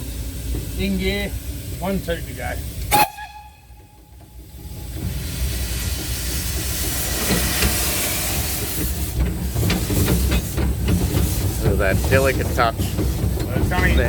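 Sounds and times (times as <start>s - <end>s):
steam hissing from locomotive: 0.0s - 14.0s.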